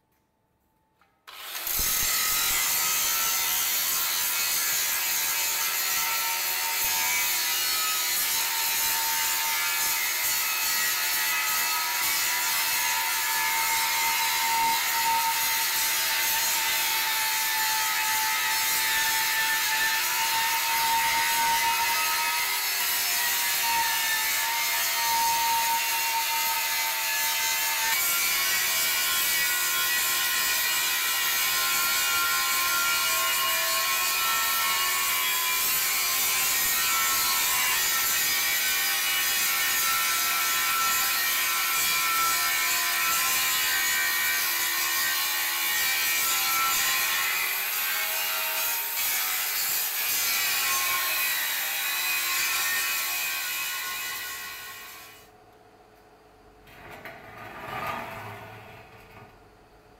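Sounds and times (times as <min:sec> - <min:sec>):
angle grinder grinding metal: 0:01.3 - 0:55.3.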